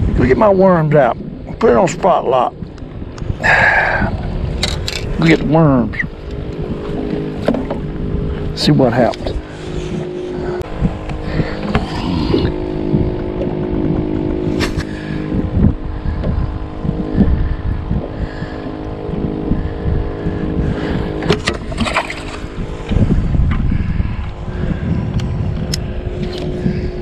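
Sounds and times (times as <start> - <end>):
wind rumble on microphone: 0.0 - 27.0
electric trolling motor humming: 2.1 - 27.0.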